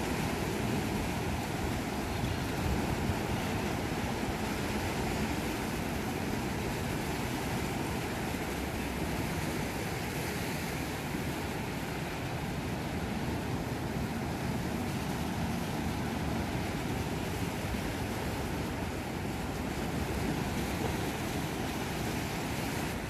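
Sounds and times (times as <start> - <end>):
waves washing up a beach: 0.0 - 23.0.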